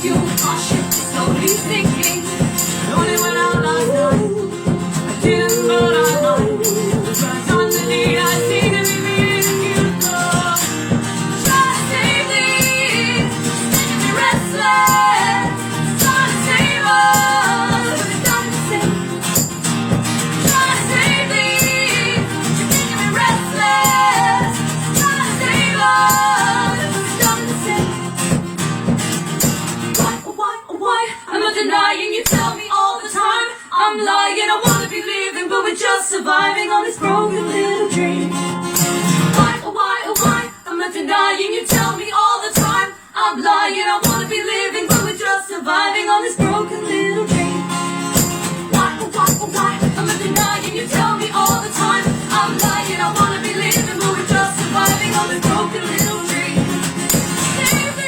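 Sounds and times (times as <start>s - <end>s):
strummed acoustic guitar: 0.0s - 30.4s, 32.2s - 32.8s, 34.6s - 58.0s
women singing: 0.0s - 58.0s.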